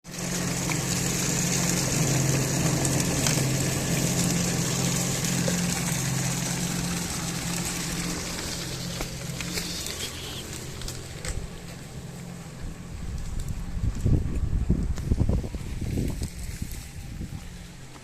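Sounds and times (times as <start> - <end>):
engine droning with hiss: 0.1 - 18.0.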